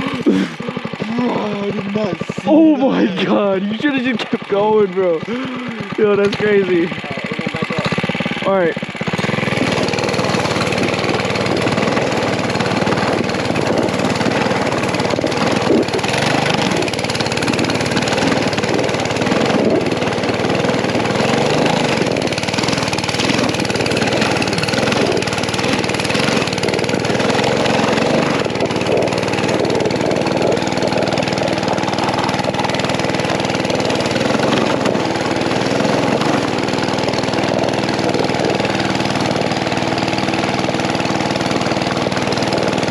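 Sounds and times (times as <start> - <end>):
small gas engine running: 0.0 - 42.9.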